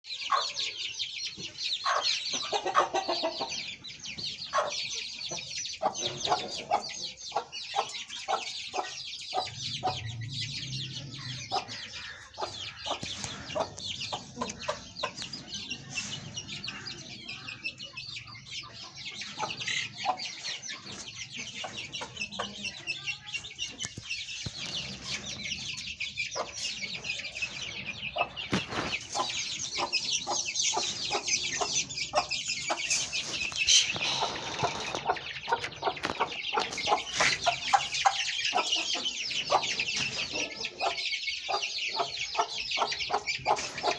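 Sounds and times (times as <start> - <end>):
chicks cheeping: 0.0 - 43.9.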